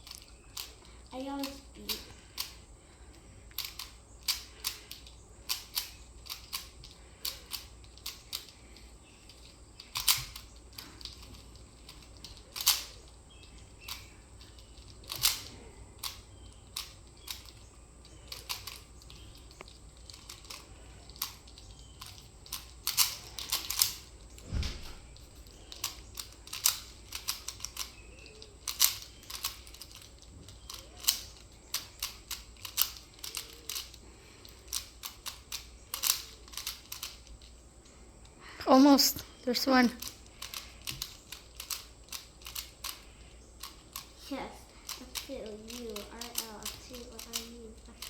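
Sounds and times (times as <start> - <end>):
puzzle cube plastic clicks: 0.0 - 2.6, 3.5 - 24.4, 25.1 - 37.6, 39.6 - 44.2, 44.8 - 48.0.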